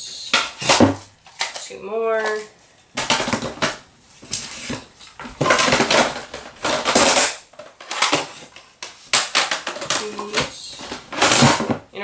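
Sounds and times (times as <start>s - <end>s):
picture frames clattering: 0.3s - 11.9s.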